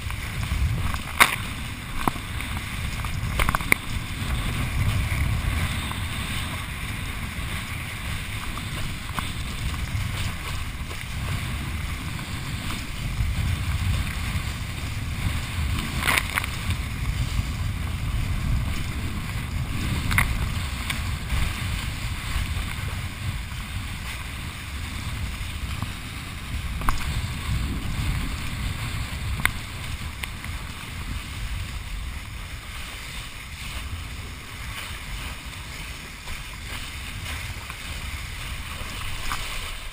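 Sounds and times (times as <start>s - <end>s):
board skimming over choppy water: 0.0s - 39.9s
wind buffeting microphone: 0.0s - 39.9s.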